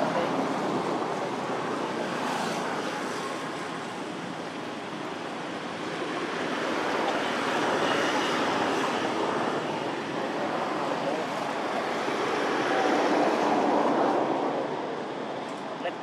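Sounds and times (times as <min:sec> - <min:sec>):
rushing outdoor background noise: 0:00.0 - 0:16.0.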